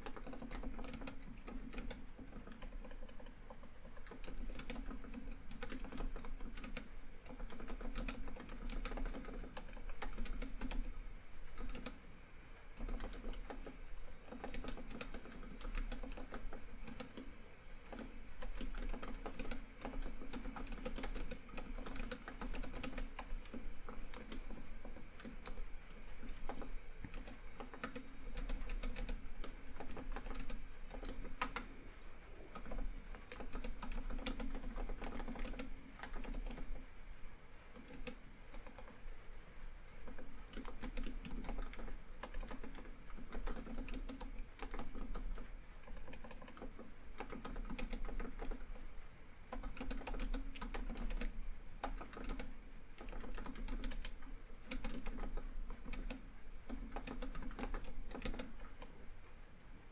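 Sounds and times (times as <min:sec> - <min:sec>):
laptop keyboard typing: 0:00.0 - 0:37.0, 0:37.7 - 0:59.1.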